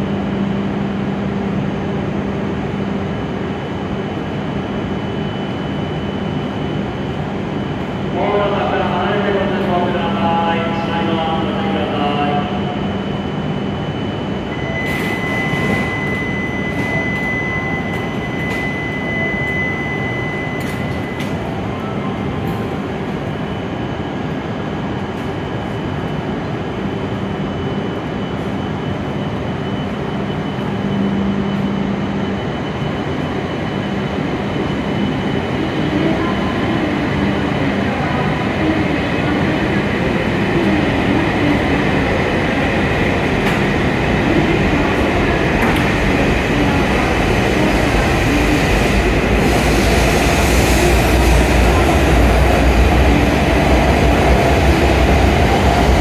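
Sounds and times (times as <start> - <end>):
high-speed train pulling out: 0.0 - 56.0.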